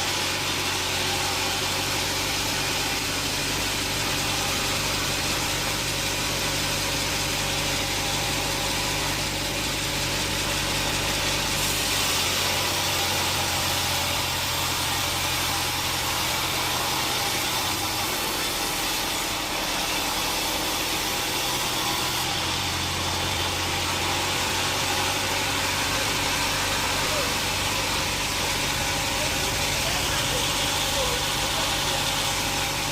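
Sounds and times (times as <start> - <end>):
engine hum: 0.0 - 32.9
high machinery hiss: 0.0 - 32.9.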